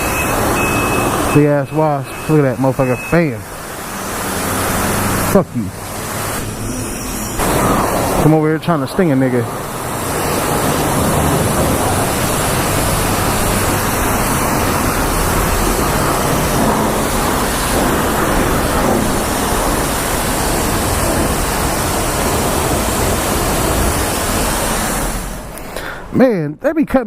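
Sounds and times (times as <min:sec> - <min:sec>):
high-pressure water spraying: 0:00.0 - 0:25.6.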